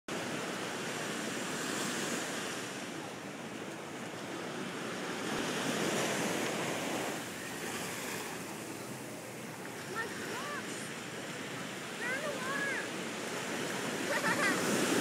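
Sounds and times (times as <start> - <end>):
ocean surf washing in: 0.1 - 15.0.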